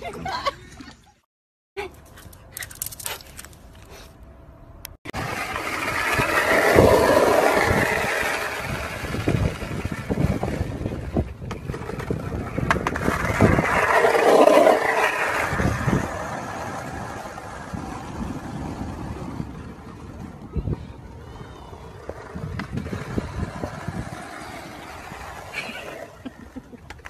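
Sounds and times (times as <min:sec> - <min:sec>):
skateboard wheels rolling on asphalt: 0:05.1 - 0:27.0.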